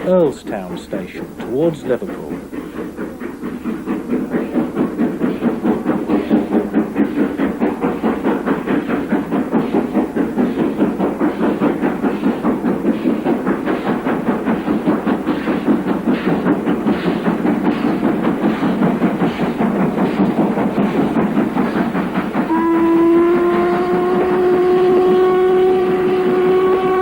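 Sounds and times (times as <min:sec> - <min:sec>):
steam locomotive exhaust beating: 0:00.0 - 0:27.0.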